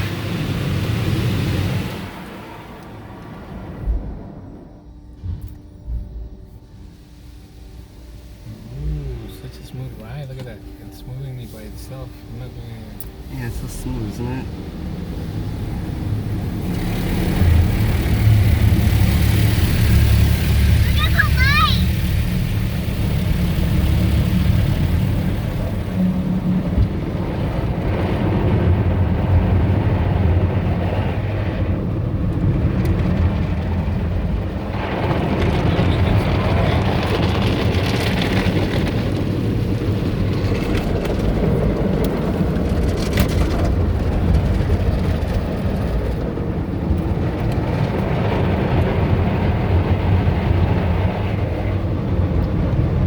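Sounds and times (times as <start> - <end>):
car wash machinery rumble: 0.0 - 53.0.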